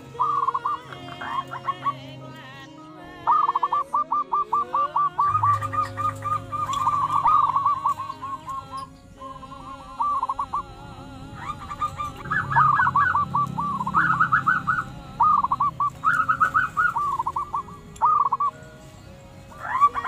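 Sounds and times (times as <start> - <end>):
doves cooing: 0.0 - 2.4, 3.2 - 20.0.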